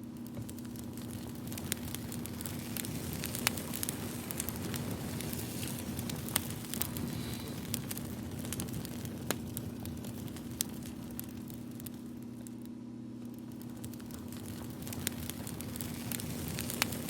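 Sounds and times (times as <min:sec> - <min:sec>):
sharp pops of fire: 0:00.0 - 0:17.0
wood fire crackling: 0:00.0 - 0:17.0.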